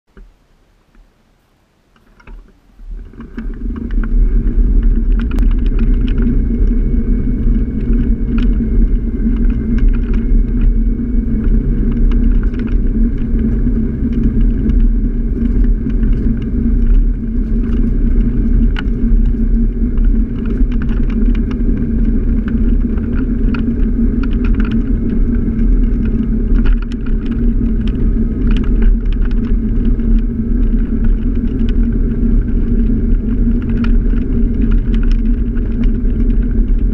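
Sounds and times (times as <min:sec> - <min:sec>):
faint thin whine: 0:00.1 - 0:36.9
scooter ride rumble and wind: 0:01.9 - 0:36.9.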